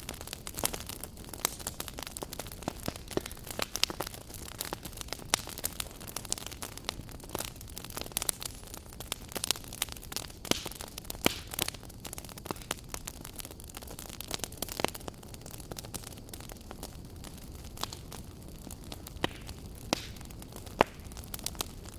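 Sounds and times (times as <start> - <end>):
low hiss of burning: 0.0 - 21.9
wood fire crackling: 0.0 - 21.9.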